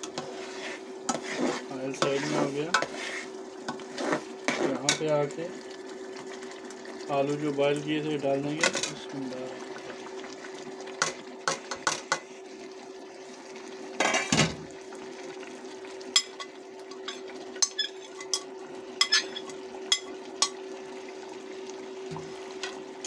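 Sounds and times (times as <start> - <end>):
cooktop hum: 0.0 - 23.0.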